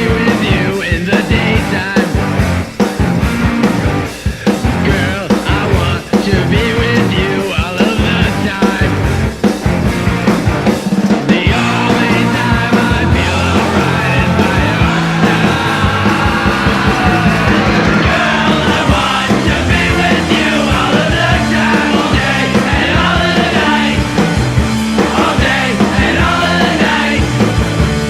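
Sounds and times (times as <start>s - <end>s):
shouted lead vocal: 0.0s - 2.4s, 4.1s - 9.2s, 11.3s - 28.0s
hardcore punk band playing: 0.0s - 28.0s.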